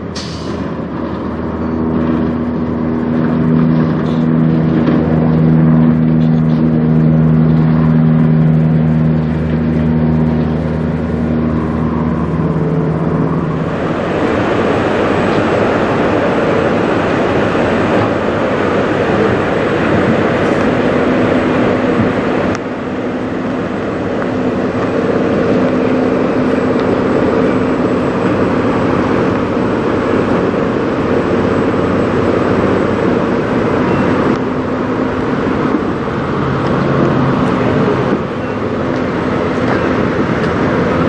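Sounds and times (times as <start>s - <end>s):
diesel truck engines idling: 0.0s - 41.0s.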